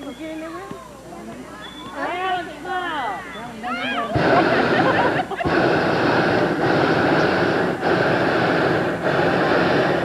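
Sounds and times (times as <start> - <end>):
propane burner blasts: 1.8 - 10.0.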